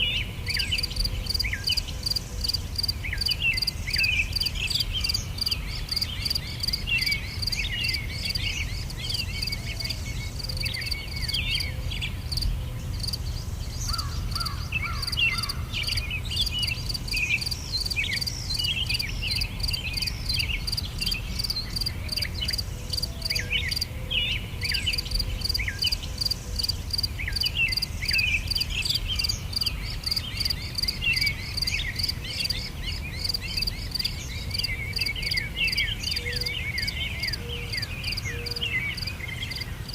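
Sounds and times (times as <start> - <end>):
insects chirring: 0.0 - 23.9, 24.7 - 36.2
bird chirps: 0.0 - 39.9.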